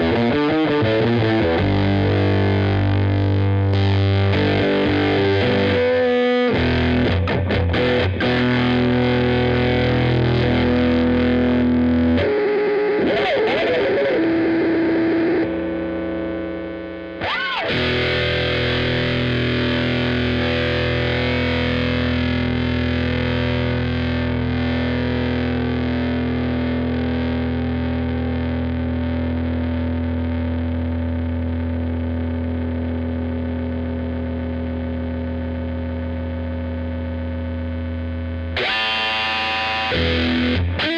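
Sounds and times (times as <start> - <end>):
distorted fuzz electric guitar: 0.0 - 40.9.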